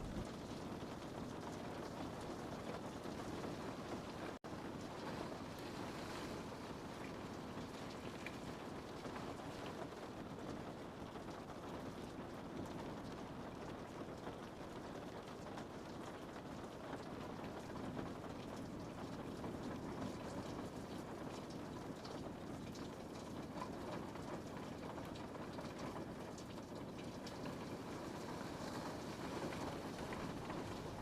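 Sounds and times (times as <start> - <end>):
rain on a window pane: 0.0 - 31.0.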